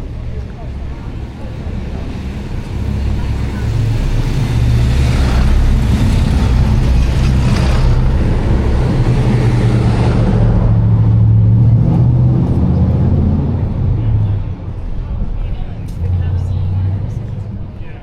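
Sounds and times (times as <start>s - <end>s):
road noise: 0.0s - 18.0s
vehicle engine humming: 0.0s - 18.0s.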